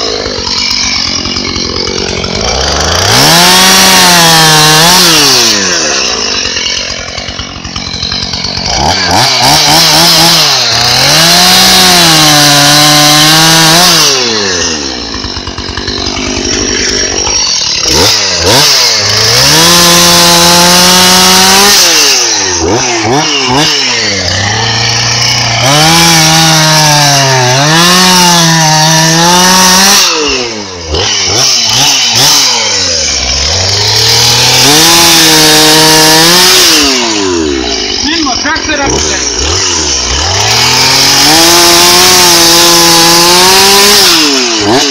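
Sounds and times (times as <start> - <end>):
chainsaw engine revving: 0.0 - 44.9.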